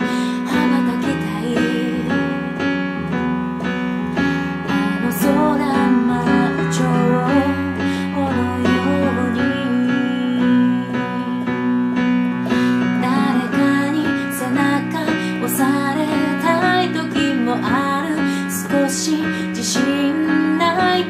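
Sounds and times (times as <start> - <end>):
woman singing: 0.0 - 2.8, 4.7 - 21.0
piano chords: 0.0 - 21.0.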